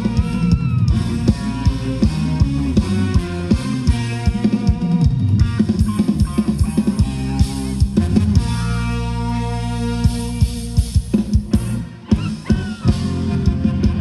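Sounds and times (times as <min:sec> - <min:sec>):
band playing dance music: 0:00.0 - 0:14.0
driving drum beat: 0:00.0 - 0:14.0.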